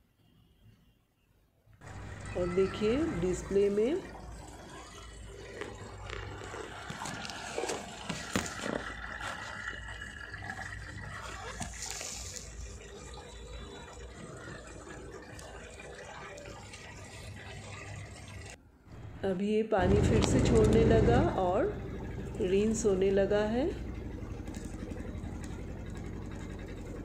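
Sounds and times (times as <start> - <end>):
water splashing into washing machine: 1.8 - 27.0.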